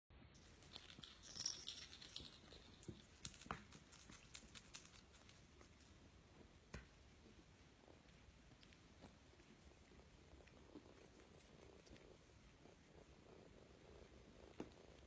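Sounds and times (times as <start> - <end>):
cat licking fur: 2.9 - 15.0.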